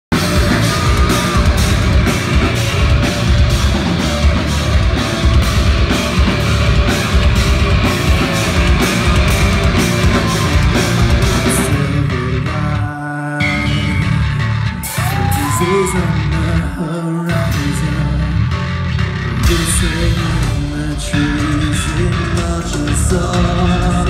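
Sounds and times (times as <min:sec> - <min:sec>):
bass guitar: 0:00.0 - 0:24.0
drum kit beat: 0:00.1 - 0:18.0, 0:19.4 - 0:24.0
electric guitars: 0:00.1 - 0:24.0.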